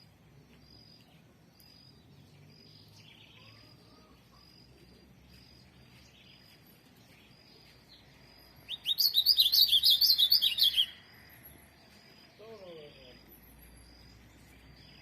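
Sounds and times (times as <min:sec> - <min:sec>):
bird singing loud quick song: 0:00.0 - 0:15.0.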